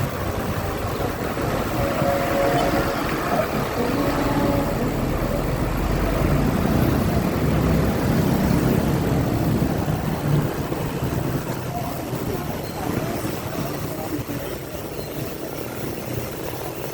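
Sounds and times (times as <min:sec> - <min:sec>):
road and wind noise: 0:00.0 - 0:16.9
vehicle engine running: 0:00.0 - 0:16.9.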